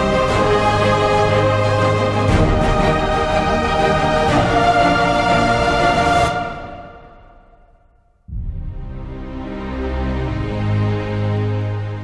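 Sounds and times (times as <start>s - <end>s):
background music with held chords: 0.0s - 12.0s.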